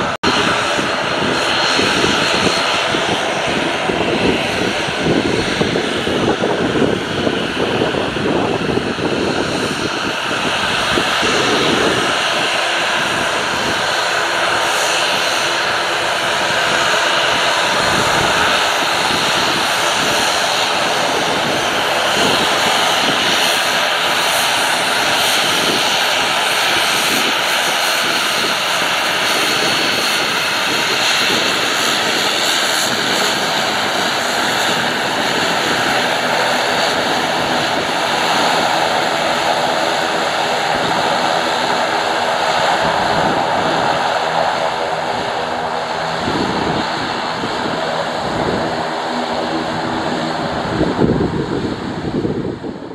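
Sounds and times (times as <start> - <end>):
turboprop engines droning with whine: 0.0 - 52.9.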